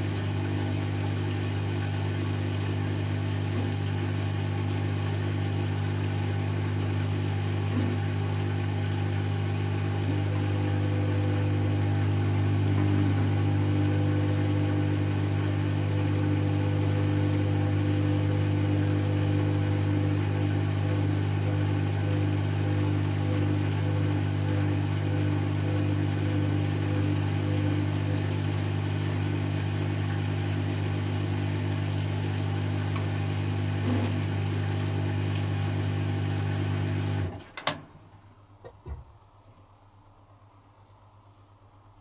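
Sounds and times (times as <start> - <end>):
washing machine spin hum: 0.0 - 42.0.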